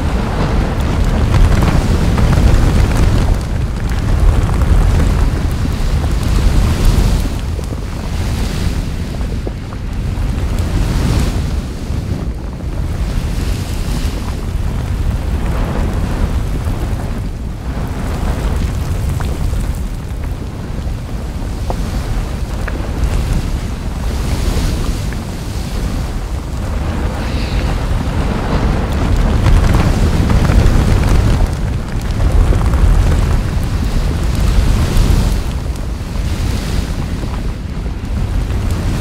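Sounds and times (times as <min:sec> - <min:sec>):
volcanic vent rumbling and rushing: 0:00.0 - 0:39.0.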